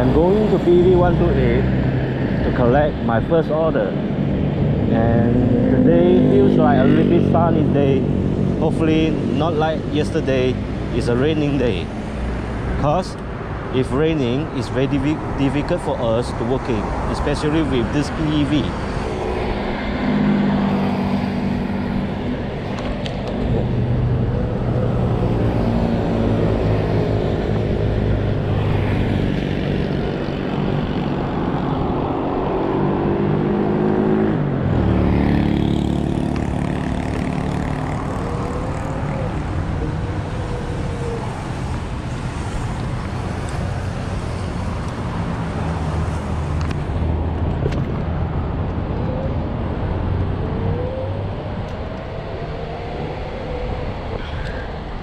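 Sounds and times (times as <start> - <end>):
traffic passing: 0.0 - 55.0.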